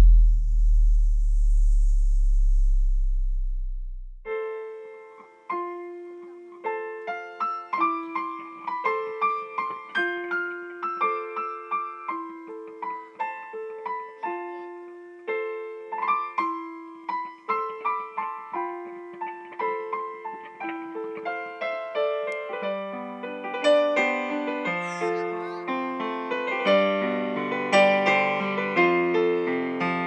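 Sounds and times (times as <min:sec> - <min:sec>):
solo piano: 0:04.3 - 0:30.0.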